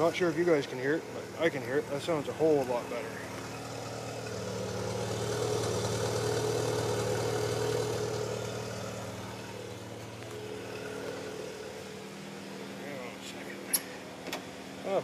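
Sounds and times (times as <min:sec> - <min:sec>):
truck engine through exhaust: 0:00.0 - 0:15.0.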